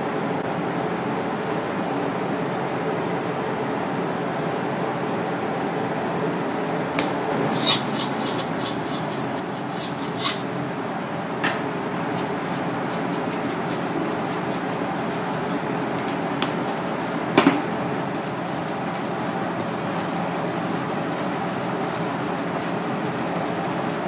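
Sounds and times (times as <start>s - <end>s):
fan-like background hiss: 0.0s - 24.0s.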